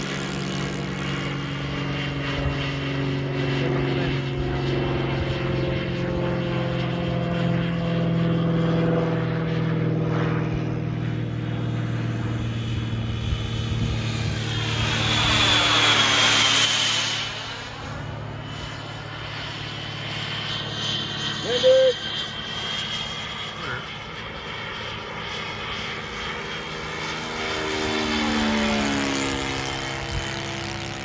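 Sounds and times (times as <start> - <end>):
model jet turbine whine: 0.0 - 31.0
steady low drone: 0.0 - 31.0.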